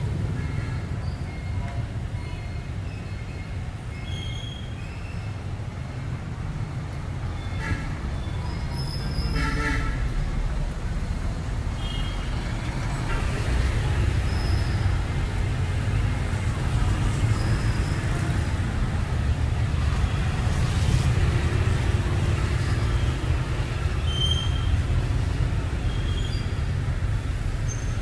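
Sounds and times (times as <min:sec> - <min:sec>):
city street traffic rumble: 0:00.0 - 0:28.0.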